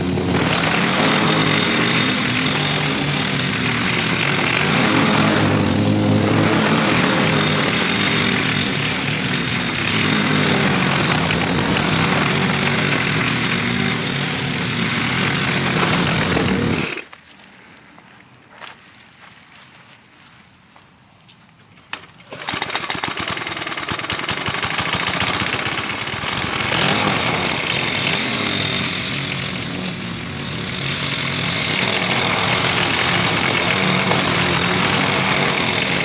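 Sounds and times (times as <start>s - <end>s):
lawn mower engine running: 0.0s - 17.2s, 22.2s - 36.0s.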